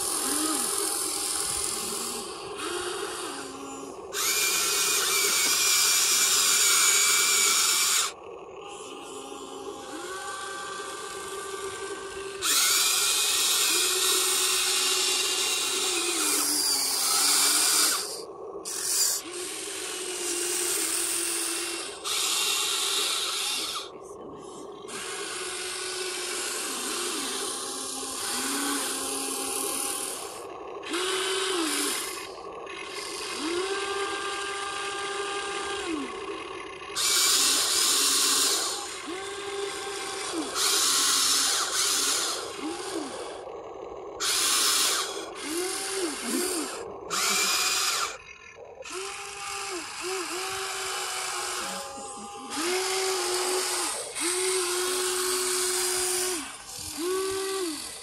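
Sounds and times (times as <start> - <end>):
small electric motors whining: 0.0 - 58.0
toy grinding: 0.0 - 58.0.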